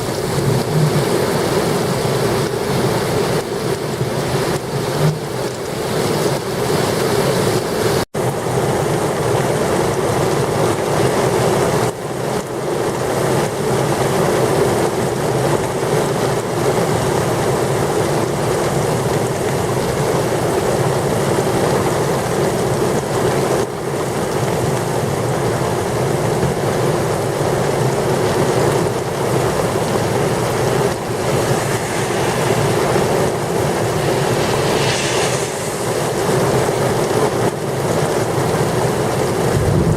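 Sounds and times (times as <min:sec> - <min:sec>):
gusty wind: 0:00.0 - 0:39.9
heavy rain falling: 0:00.0 - 0:39.9.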